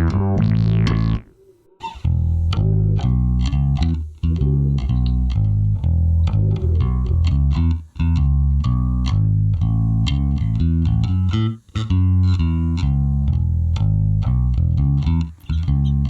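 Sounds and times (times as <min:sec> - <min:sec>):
electric bass guitar plucked notes: 0:00.0 - 0:16.0.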